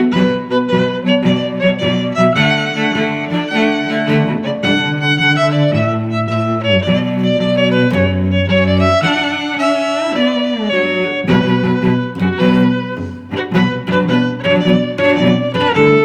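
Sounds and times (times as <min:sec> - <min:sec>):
bowed string music: 0:00.0 - 0:16.0.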